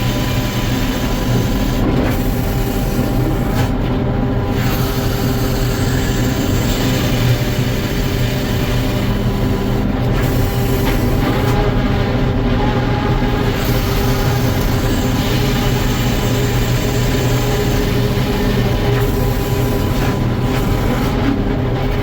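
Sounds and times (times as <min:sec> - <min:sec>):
sawmill machinery low hum: 0:00.0 - 0:22.0.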